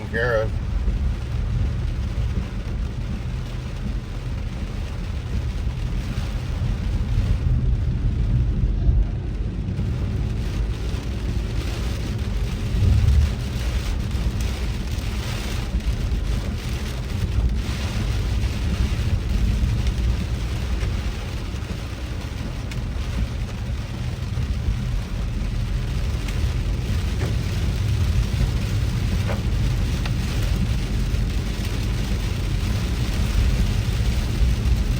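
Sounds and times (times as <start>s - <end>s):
car and tyres rumbling on wet road: 0.0s - 34.9s
heavy rain on car: 0.0s - 34.9s.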